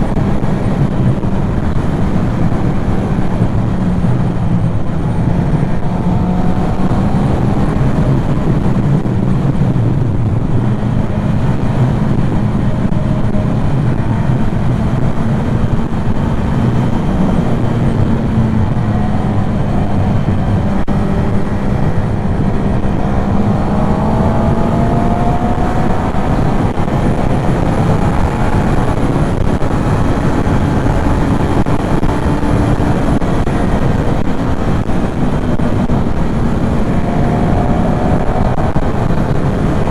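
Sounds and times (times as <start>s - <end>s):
motorcycle engine running: 0.0s - 39.9s
motorcycles revving: 0.0s - 39.9s
wind and road rush: 0.0s - 39.9s.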